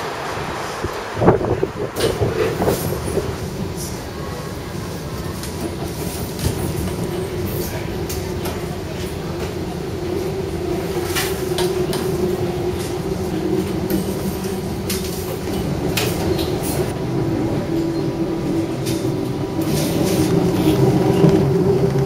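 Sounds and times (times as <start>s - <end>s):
tram hum and rumble: 0.0s - 22.0s.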